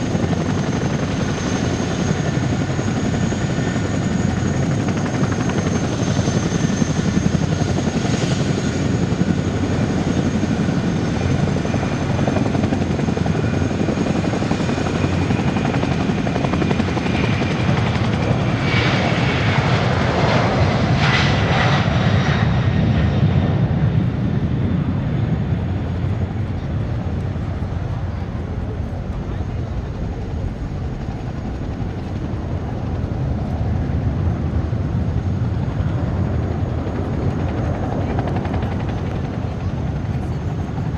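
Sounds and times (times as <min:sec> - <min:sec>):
aircraft turbine engines rushing: 0:00.0 - 0:40.9.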